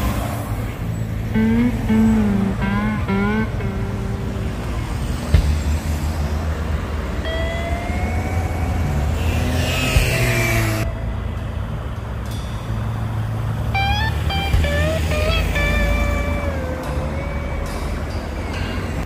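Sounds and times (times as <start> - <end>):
cars and bus driving past: 0.0 - 19.0
rising whine: 1.2 - 19.0.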